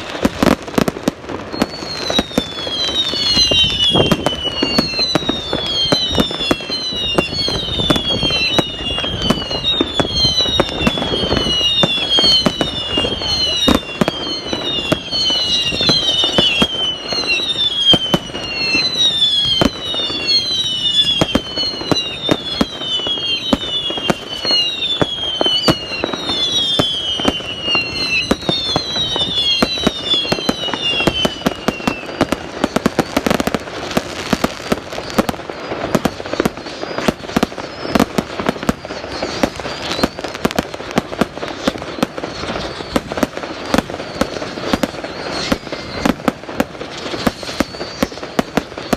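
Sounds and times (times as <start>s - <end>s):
firework bangs: 0.0s - 48.9s
firework crackling: 0.0s - 48.9s
whistling fireworks: 0.0s - 48.9s.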